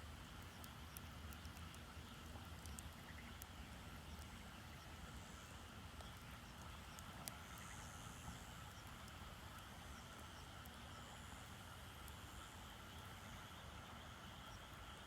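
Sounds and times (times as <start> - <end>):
small fire crackling and popping: 0.0 - 15.0.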